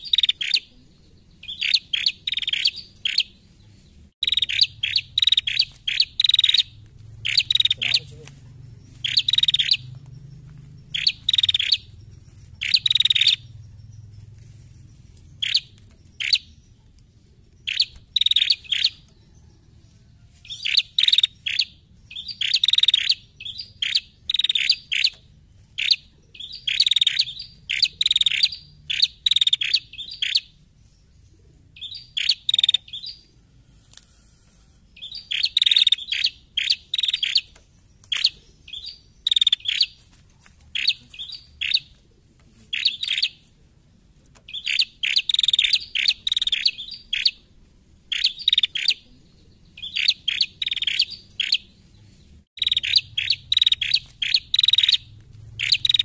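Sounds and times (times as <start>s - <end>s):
bird rapid sharp chirps: 0.0s - 0.8s, 1.4s - 3.4s, 4.2s - 16.9s, 17.5s - 19.1s, 20.4s - 30.6s, 31.6s - 33.3s, 34.9s - 40.0s, 40.7s - 42.0s, 42.7s - 43.4s, 44.5s - 47.4s, 48.1s - 49.1s, 49.7s - 51.8s, 52.6s - 56.0s.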